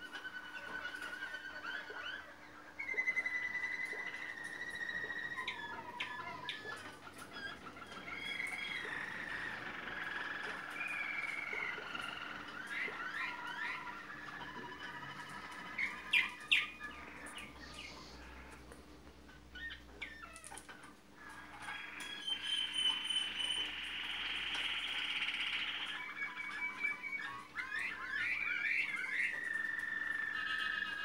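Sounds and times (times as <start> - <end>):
canary singing: 0.0 - 31.0.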